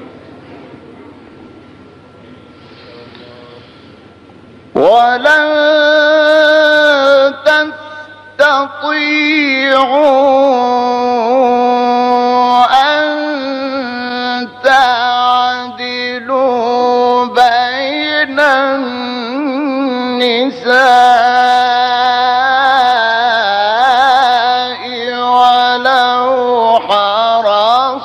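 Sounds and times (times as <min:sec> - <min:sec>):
person reciting melodically: 0:04.7 - 0:28.0.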